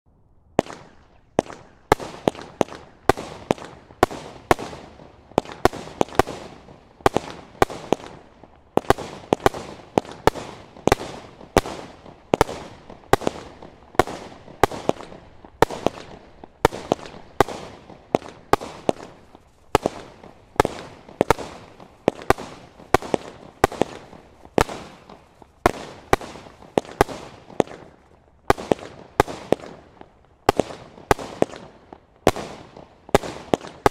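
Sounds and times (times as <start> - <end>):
fireworks cake bangs: 0.6 - 33.9.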